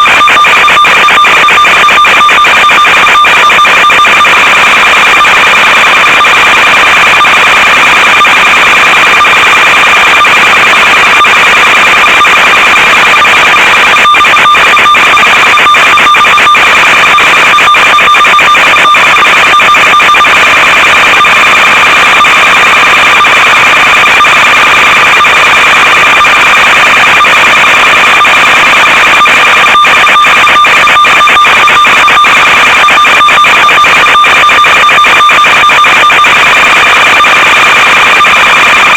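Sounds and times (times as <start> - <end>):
static crackles: 0.0 - 38.9.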